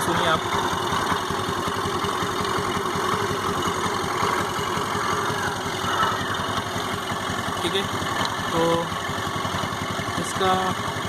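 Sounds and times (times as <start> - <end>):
scooter engine idling with knocking: 0.0 - 11.0.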